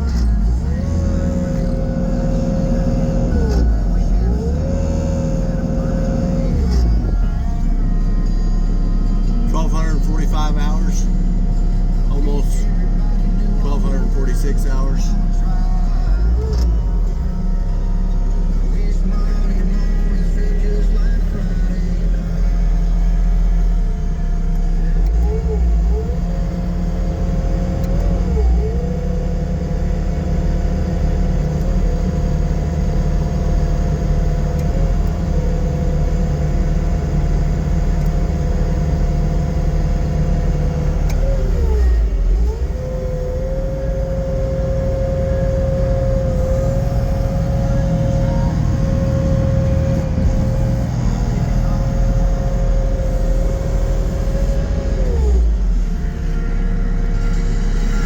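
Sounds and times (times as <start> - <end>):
diesel engine rumbling with whine: 0.0 - 58.0.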